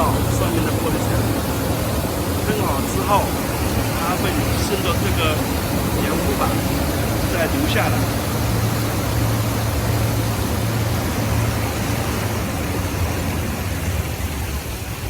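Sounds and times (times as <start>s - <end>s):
fans and pump humming: 0.0s - 15.0s
rushing air and falling water: 0.0s - 15.0s.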